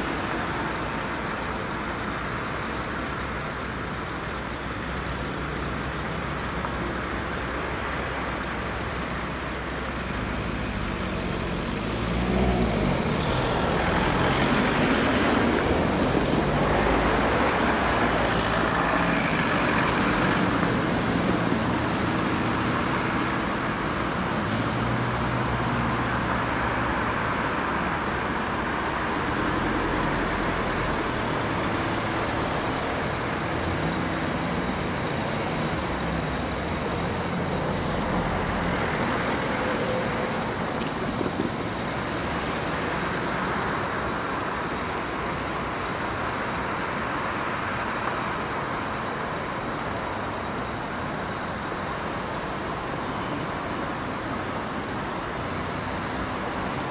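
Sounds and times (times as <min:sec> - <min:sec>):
cars driving past: 0:05.5 - 0:56.9.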